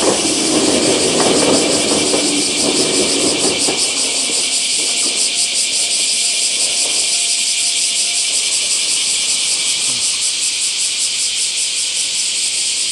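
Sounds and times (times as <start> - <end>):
cicadas chorus pulsing: 0.0 - 12.9.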